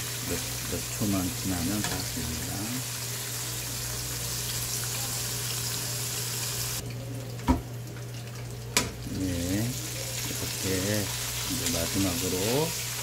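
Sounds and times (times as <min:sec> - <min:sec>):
hot oil sizzling: 0:00.0 - 0:06.8, 0:08.6 - 0:13.0.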